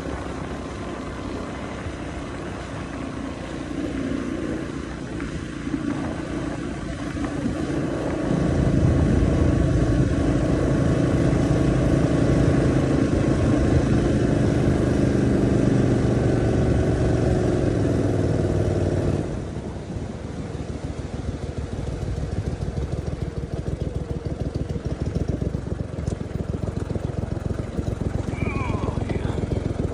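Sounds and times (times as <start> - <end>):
outboard motor running: 0.0 - 29.9.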